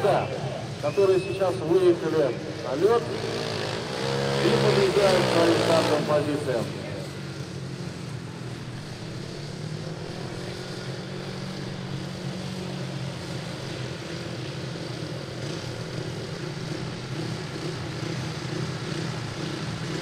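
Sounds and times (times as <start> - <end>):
motorcycle engines running at low revs: 0.0 - 20.0.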